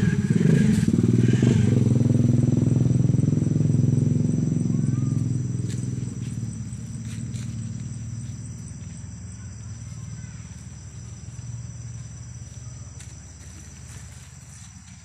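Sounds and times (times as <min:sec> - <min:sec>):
crickets chirping: 0:00.0 - 0:15.0
vehicle engine hum: 0:00.0 - 0:15.0.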